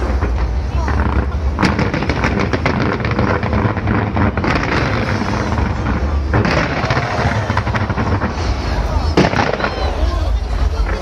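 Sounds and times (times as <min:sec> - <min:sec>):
fireworks cracks and crackles: 0:00.0 - 0:11.0
fireworks rumble: 0:00.0 - 0:11.0.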